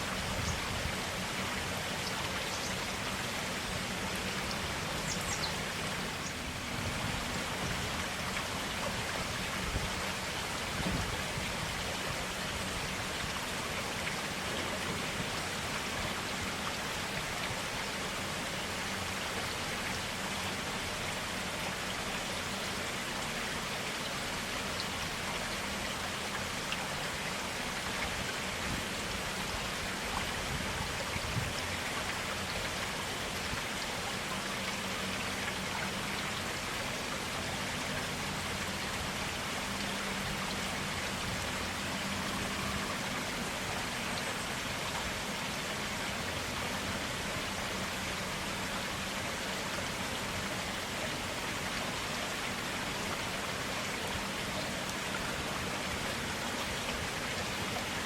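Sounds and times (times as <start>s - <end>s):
forest stream running: 0.0s - 58.0s.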